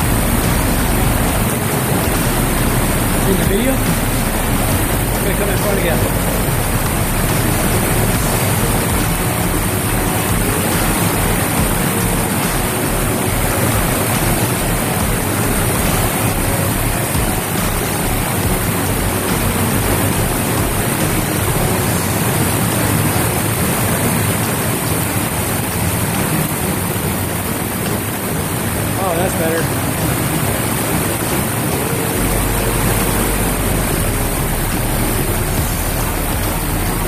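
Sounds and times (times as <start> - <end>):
water rushing through tunnel: 0.0 - 37.0.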